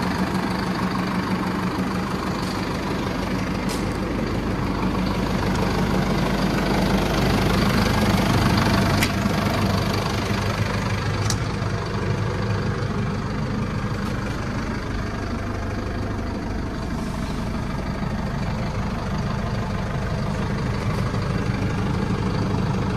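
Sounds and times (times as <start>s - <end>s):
tractor diesel engine idling: 0.0s - 22.9s.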